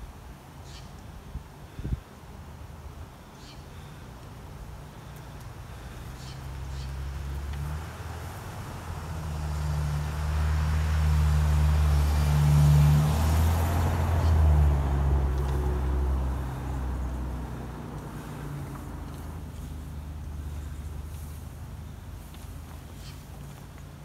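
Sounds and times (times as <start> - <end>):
vehicle passing by: 4.6 - 24.0.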